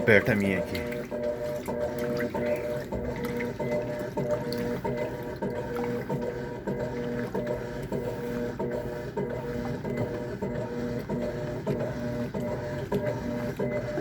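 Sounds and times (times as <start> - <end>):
washing machine agitator motor hum: 0.0 - 14.0.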